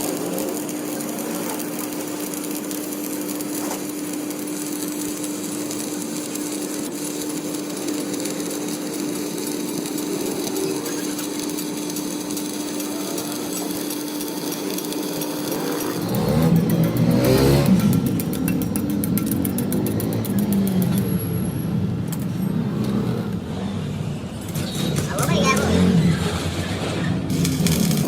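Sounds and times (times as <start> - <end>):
machine rasping: 0.6 - 21.2, 24.5 - 28.0.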